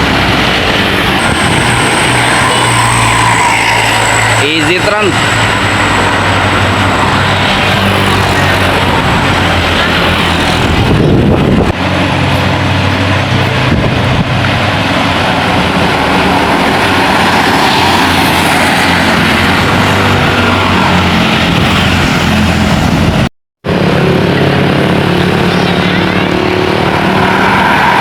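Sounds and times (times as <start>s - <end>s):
bus engines humming: 0.0s - 28.0s
tyre and road noise: 0.0s - 28.0s.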